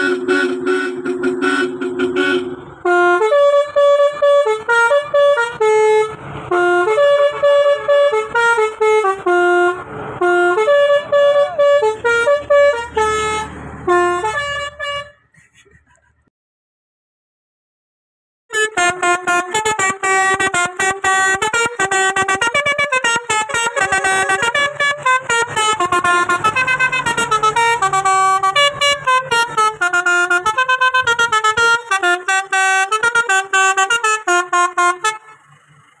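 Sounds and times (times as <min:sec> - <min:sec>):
van horn playing tune: 0:00.0 - 0:15.3, 0:18.5 - 0:35.5.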